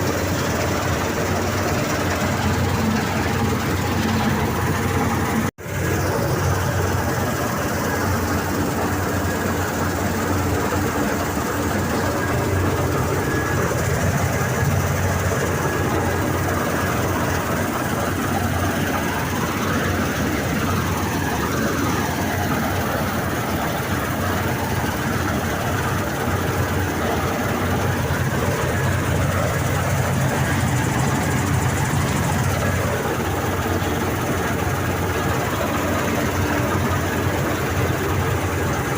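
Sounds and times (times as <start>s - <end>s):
harvesting machinery engine drone: 0.0s - 38.9s.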